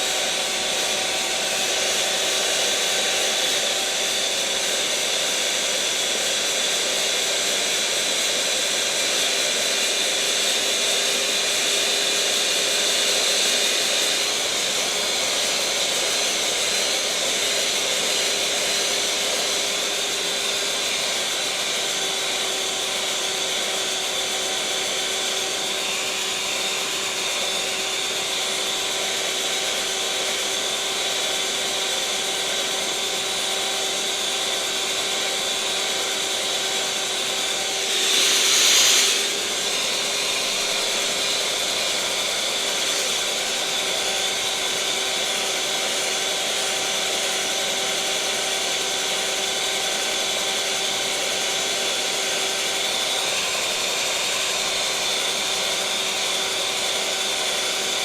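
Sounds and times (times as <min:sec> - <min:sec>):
electric mixer motor whirring: 0:00.0 - 0:58.0.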